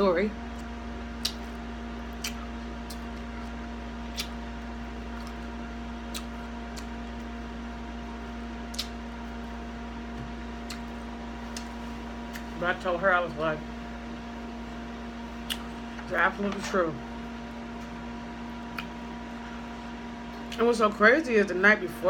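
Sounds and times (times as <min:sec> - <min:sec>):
electrical hum of fan: 0:00.0 - 0:22.0.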